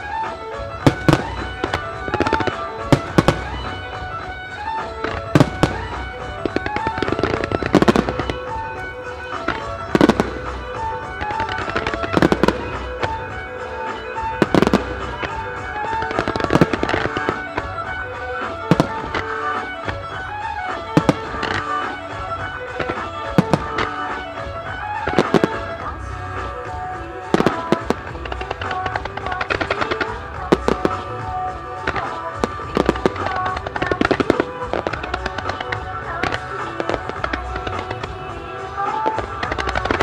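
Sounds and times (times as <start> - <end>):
firework shells bursting: 0.0 - 40.0
music with sustained notes: 0.0 - 40.0.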